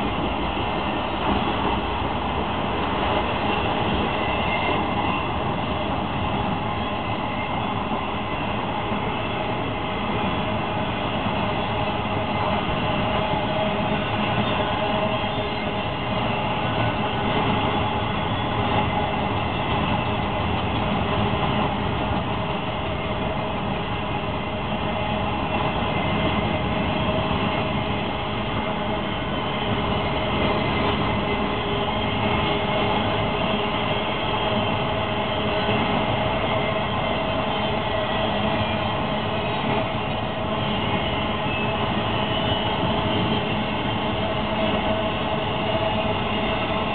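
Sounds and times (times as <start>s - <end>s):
freight train wheels rumbling on rails: 0.0s - 46.9s.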